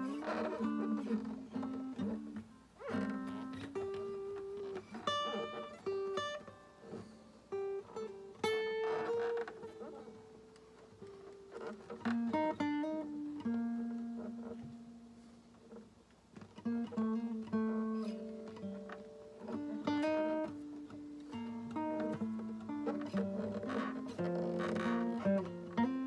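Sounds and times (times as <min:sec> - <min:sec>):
acoustic guitar played slowly: 0:00.0 - 0:26.0.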